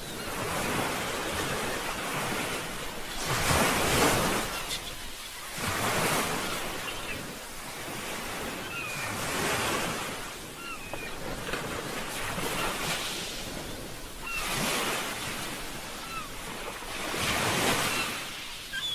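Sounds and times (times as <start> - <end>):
sea waves washing in and out: 0.0 - 18.9.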